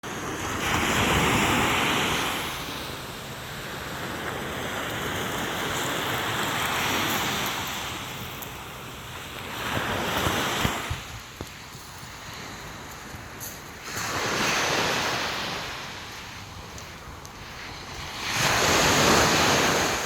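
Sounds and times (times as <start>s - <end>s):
sea waves breaking on beach: 0.0s - 20.0s
wind rumbling on microphone: 0.0s - 20.0s.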